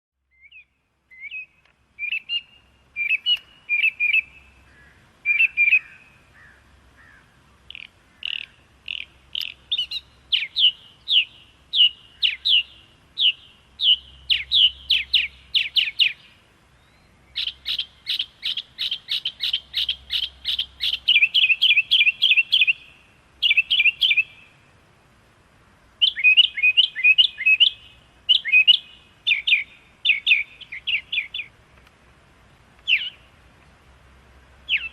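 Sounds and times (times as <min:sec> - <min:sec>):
small songbird chirping: 0:00.2 - 0:24.8, 0:25.9 - 0:34.9.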